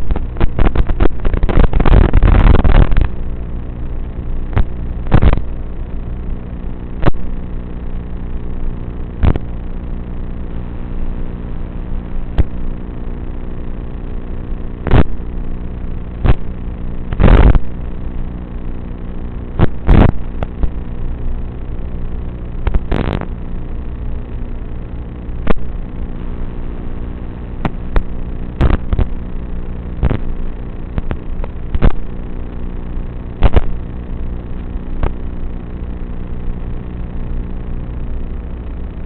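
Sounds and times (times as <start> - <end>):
drone motors humming: 0.0 - 39.0.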